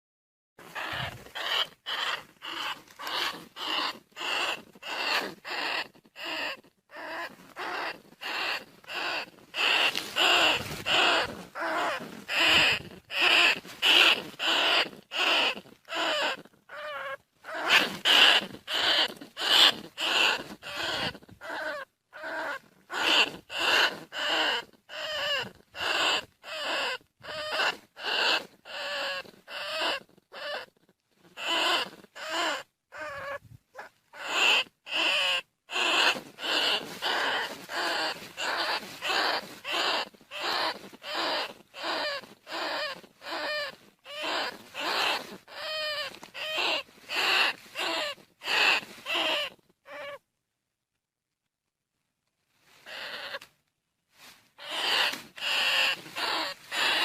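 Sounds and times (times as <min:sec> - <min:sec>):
squeaky rat calls: 0:00.6 - 0:50.2, 0:52.8 - 0:53.5, 0:54.6 - 0:57.0.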